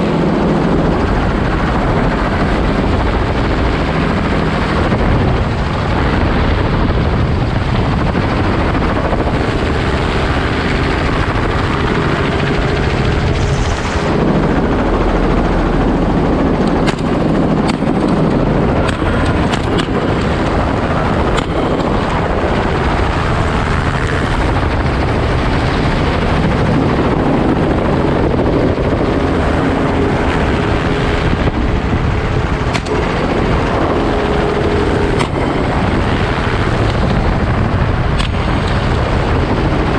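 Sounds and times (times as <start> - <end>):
helicopter running: 0.0 - 39.9
wind rushing: 0.0 - 39.9.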